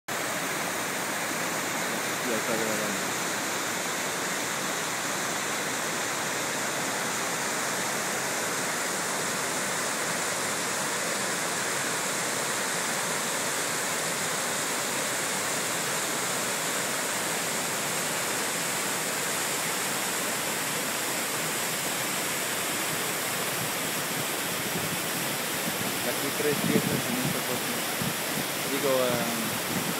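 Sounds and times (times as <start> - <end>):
river rapids rushing over rock: 0.1 - 29.9.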